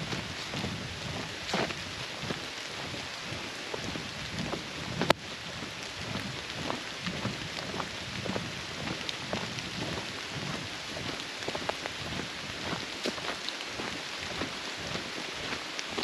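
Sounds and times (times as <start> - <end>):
soft crackles and taps: 0.0 - 16.0.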